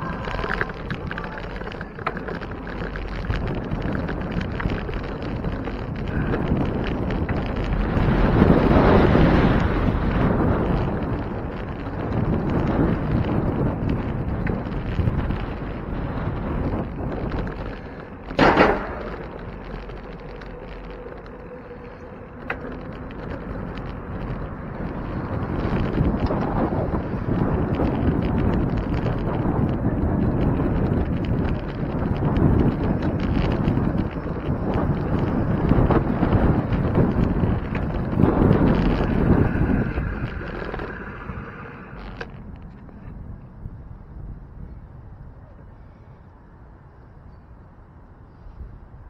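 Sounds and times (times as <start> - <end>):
bicycle rattling over brick pavers: 0.0 - 43.3
wind rushing over microphone: 0.0 - 49.0.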